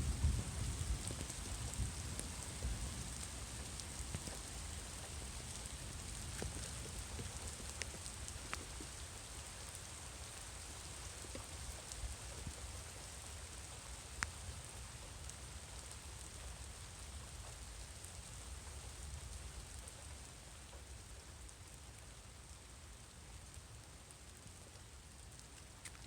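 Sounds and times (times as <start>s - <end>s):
light rain patter: 0.0s - 26.0s.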